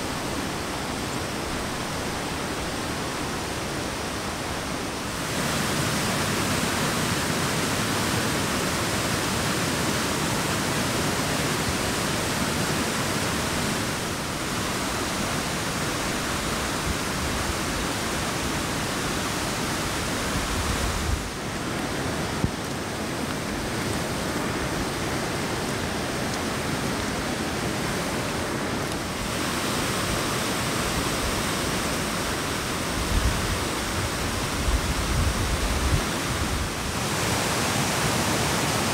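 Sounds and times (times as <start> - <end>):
creek rushing over boulders: 0.0 - 38.9.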